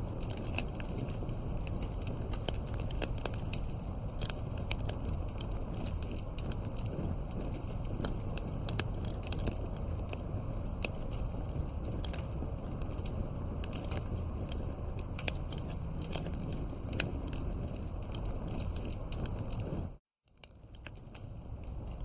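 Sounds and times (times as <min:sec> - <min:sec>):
low rumble of flames: 0:00.0 - 0:22.0
wood pops and crackles: 0:00.0 - 0:22.0.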